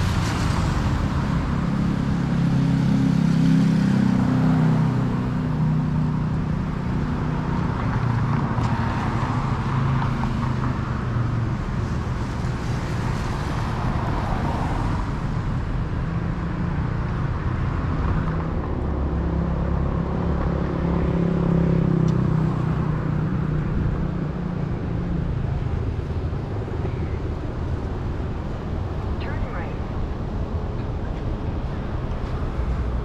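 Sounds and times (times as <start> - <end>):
engine hum: 0.0 - 33.0
rumble of passing vehicles: 0.0 - 33.0.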